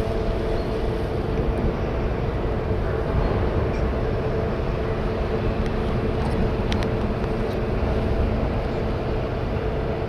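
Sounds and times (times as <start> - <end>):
ship machinery droning: 0.0 - 10.0.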